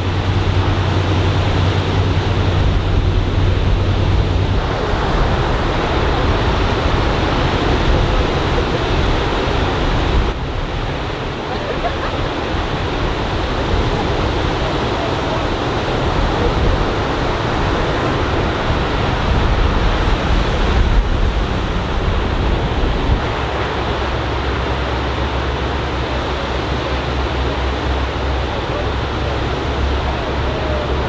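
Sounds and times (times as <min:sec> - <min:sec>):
surf breaking on beach: 0:00.0 - 0:31.0
wind rumbling on microphone: 0:00.0 - 0:31.0.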